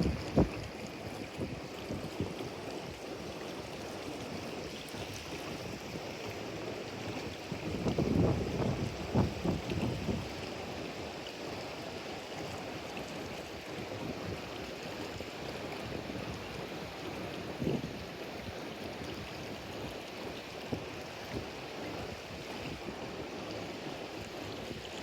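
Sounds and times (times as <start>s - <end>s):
rushing water: 0.0s - 25.0s
water splashes: 0.0s - 25.0s.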